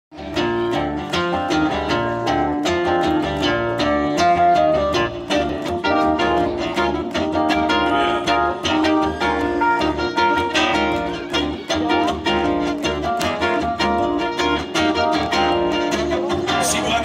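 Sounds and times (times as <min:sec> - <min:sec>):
guitar picking quick rhythm: 0:00.1 - 0:17.0
plucked double bass: 0:00.1 - 0:17.0.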